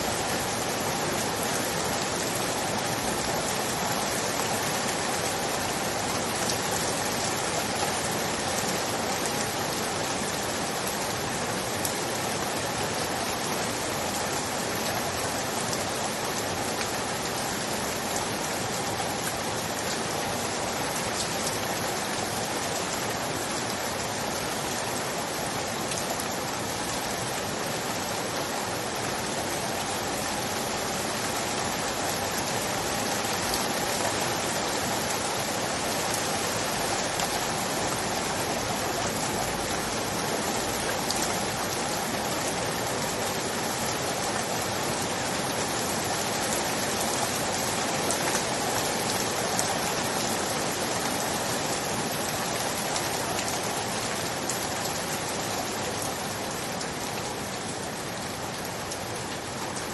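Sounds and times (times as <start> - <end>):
dense rainfall hiss: 0.0 - 59.9.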